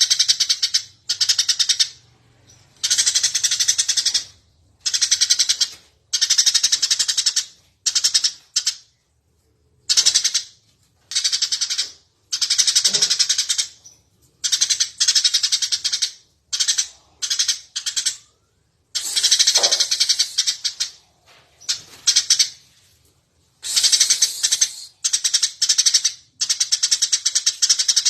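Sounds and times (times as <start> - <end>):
sparrow chirping: 0.0 - 8.8, 11.1 - 18.4, 19.0 - 22.7, 23.6 - 28.0.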